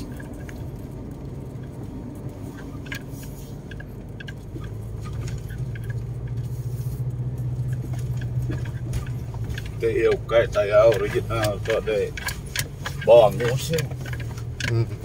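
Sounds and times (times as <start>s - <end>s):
car engine running: 0.0s - 15.0s
light clicks and rattles: 0.0s - 15.0s.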